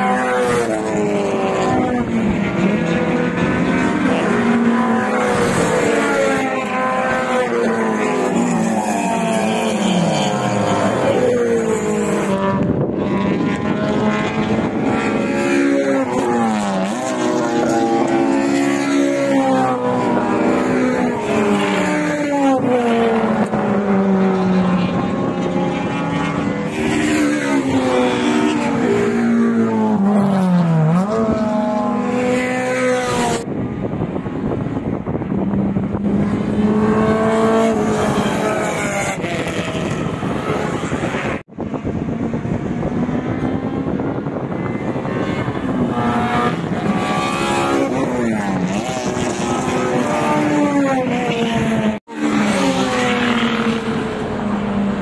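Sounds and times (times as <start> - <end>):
racing cars passing by: 0.0 - 55.0.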